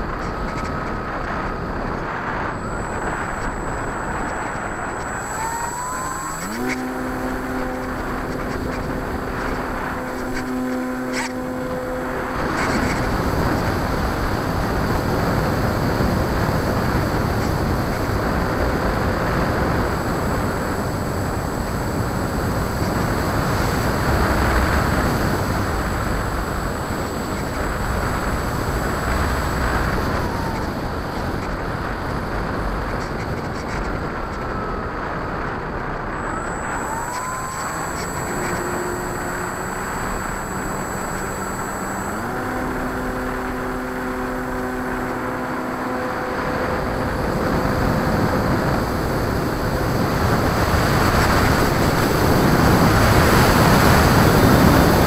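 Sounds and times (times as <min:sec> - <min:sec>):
propeller running: 0:00.0 - 0:55.0
wind rushing over microphone: 0:00.0 - 0:55.0.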